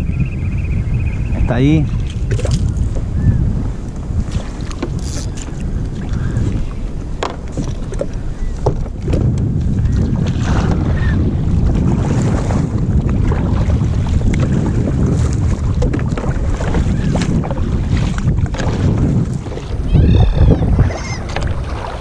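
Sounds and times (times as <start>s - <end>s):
water lapping against hull: 0.0s - 22.0s
wind buffeting microphone: 0.0s - 22.0s.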